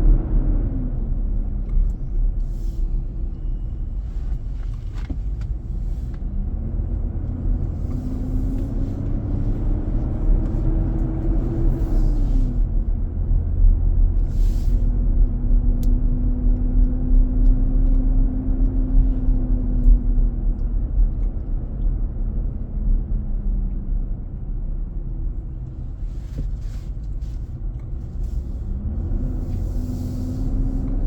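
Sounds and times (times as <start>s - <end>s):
car cabin rumble: 0.0s - 31.0s.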